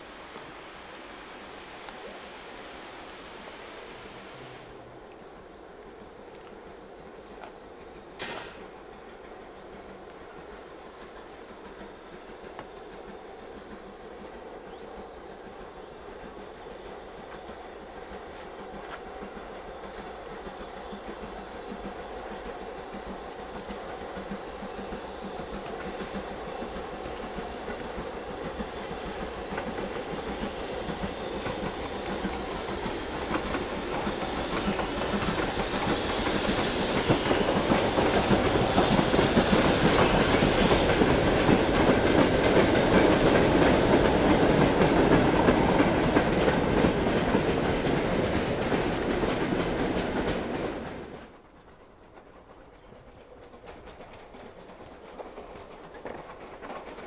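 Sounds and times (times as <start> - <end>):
steam train passing: 0.0 - 57.0.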